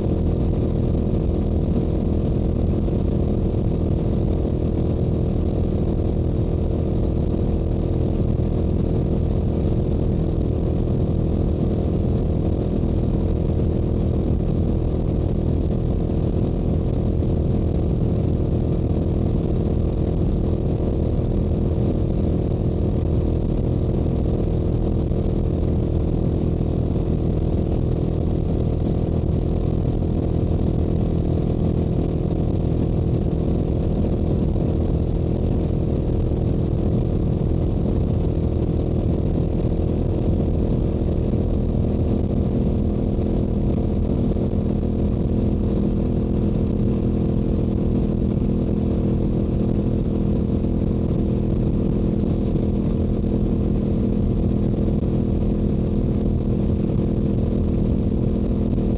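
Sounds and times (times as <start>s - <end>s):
wind rush: 0.0s - 58.9s.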